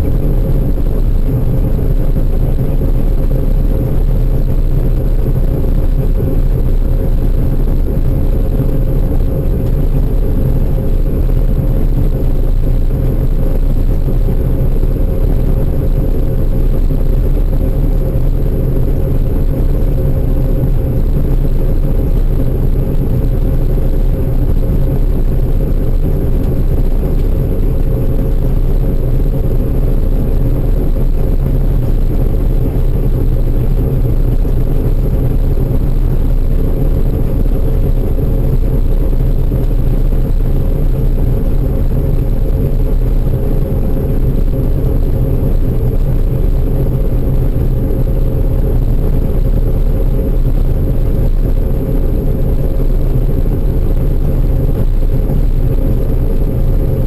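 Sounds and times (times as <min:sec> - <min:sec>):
heavy farm machinery engine running: 0:00.0 - 0:57.0.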